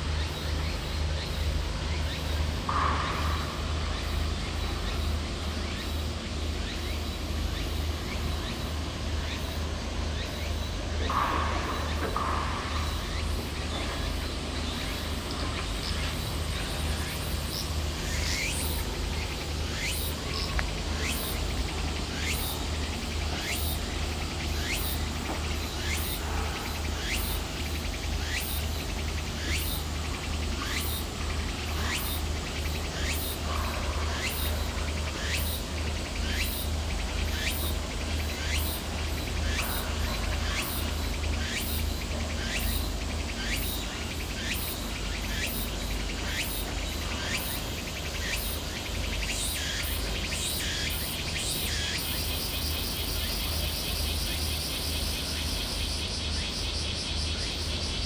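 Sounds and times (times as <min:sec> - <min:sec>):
low steady rumble: 0:00.0 - 0:51.9
insects chirping: 0:00.0 - 0:58.0.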